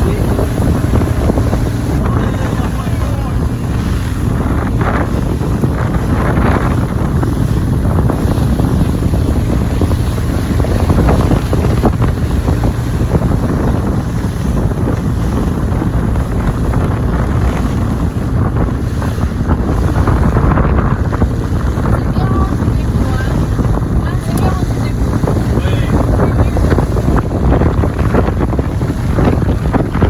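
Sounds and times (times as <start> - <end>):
boat engine: 0.0 - 30.0
water noise: 0.0 - 30.0
wind buffeting microphone: 0.0 - 30.0.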